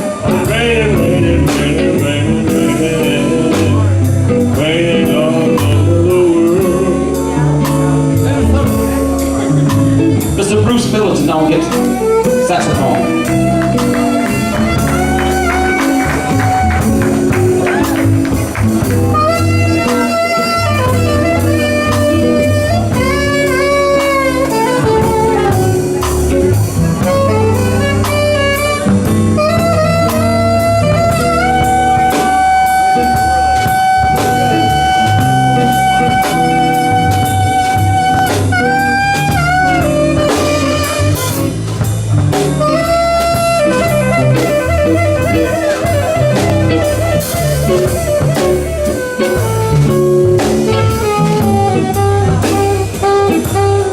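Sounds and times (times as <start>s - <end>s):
blues-soul lead melody: 0.0s - 53.9s
drums bass and guitar: 0.0s - 53.9s.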